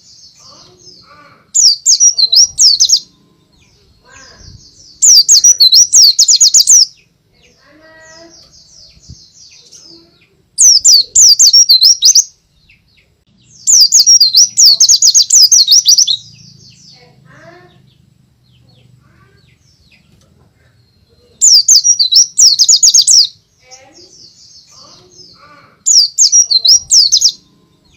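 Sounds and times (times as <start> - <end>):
bird warbling song: 0.0 - 27.9
faint bird chirps: 0.0 - 27.9.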